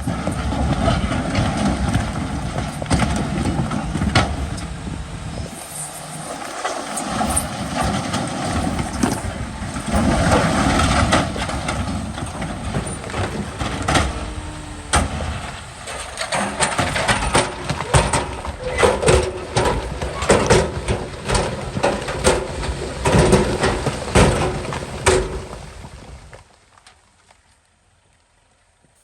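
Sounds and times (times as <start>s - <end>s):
bulldozer diesel engine running: 0.0s - 25.9s.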